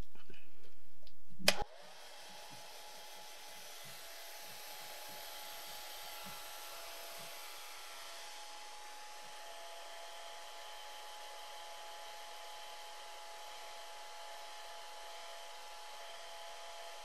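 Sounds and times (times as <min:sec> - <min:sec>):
hair dryer blowing with faint whine: 0:01.5 - 0:17.0.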